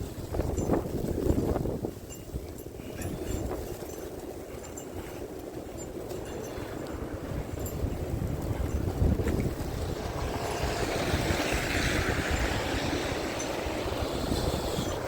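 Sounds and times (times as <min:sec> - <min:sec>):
tyres hissing on snowy street: 0:00.0 - 0:15.0
wind buffeting microphone: 0:00.0 - 0:15.0.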